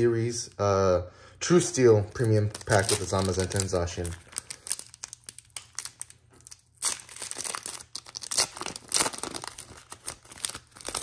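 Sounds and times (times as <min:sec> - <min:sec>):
foil wrapper tearing and crinkling: 0:02.1 - 0:11.0.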